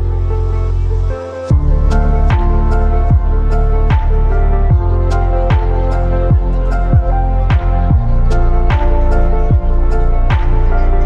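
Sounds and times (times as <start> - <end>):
synth chords: 0.0 - 11.0
deep kick drum: 1.5 - 11.0.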